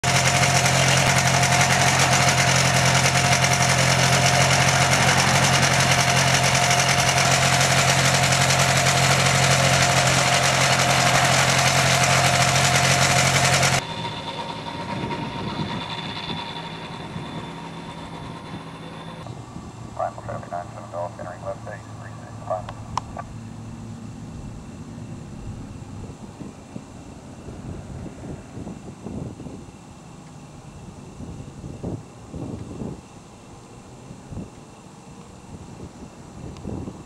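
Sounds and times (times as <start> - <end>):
aircraft engine running: 0.0 - 37.0.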